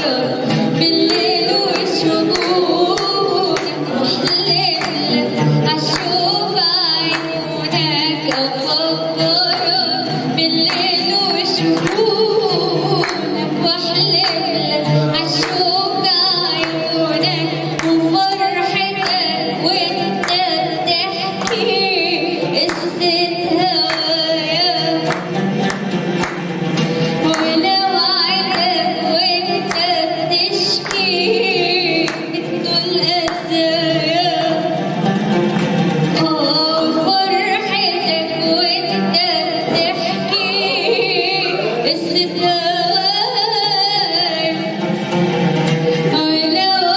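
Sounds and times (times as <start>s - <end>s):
person singing with instrumental backing: 0.0s - 46.9s.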